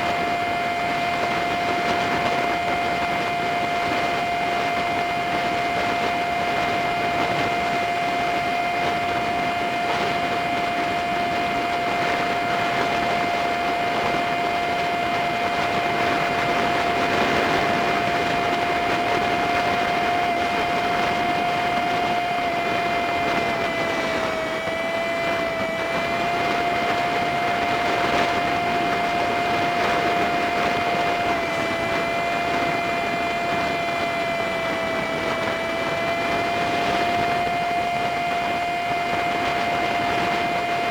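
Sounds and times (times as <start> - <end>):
high engine whine: 0.0 - 40.9
wind noise: 0.0 - 40.9.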